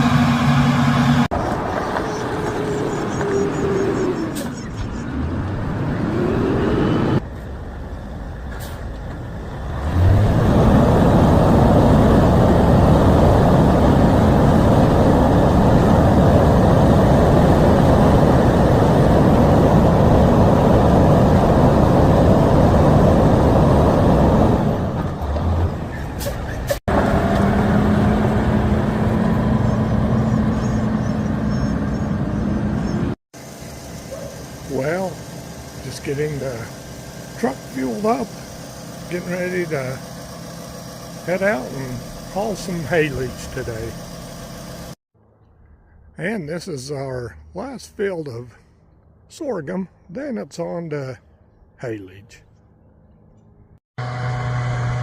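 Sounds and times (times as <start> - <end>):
heavy truck rumbling: 0.0 - 45.0.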